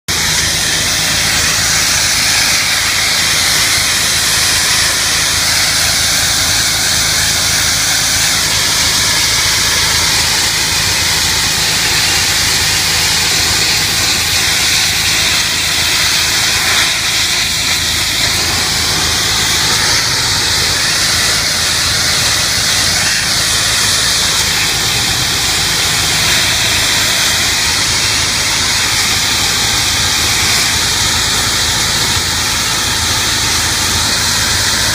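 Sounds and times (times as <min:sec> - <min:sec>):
pressure washer water jet hissing: 0:00.1 - 0:34.9
washer motor humming: 0:00.1 - 0:34.9.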